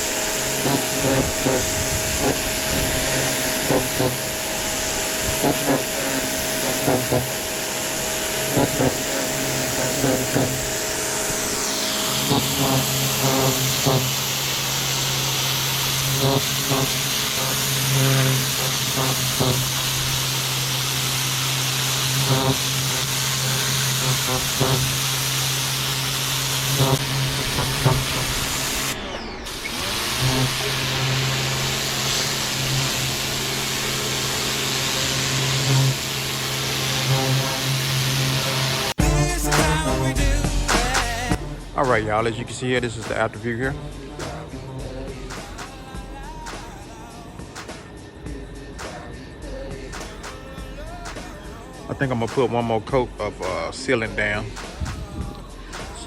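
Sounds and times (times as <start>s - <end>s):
pressure washer motor hum: 0.0s - 56.0s
water spray hissing: 0.0s - 56.0s.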